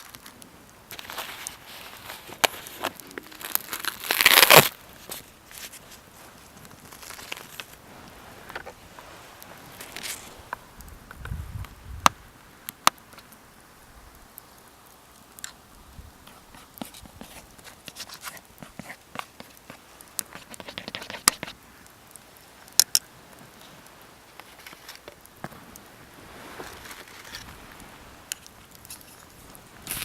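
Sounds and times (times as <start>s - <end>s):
campfire wood crackling and popping: 0.0s - 30.0s.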